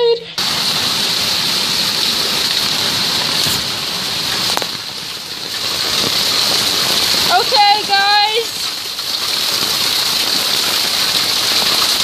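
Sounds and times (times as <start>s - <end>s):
heavy rain pouring: 0.4s - 12.0s.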